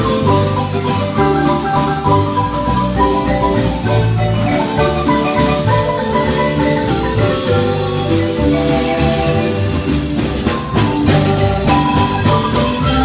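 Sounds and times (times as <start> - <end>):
electric bass line: 0.0 - 13.0
marimba mallet runs: 0.0 - 13.0.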